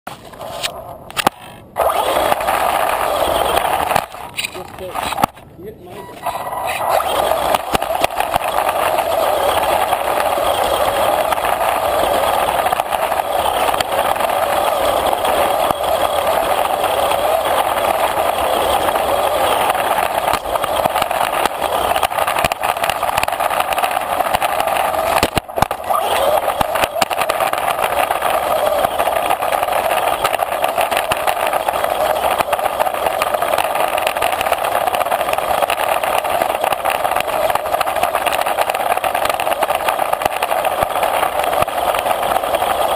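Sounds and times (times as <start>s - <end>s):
rc car motor and gears: 0.1s - 42.9s.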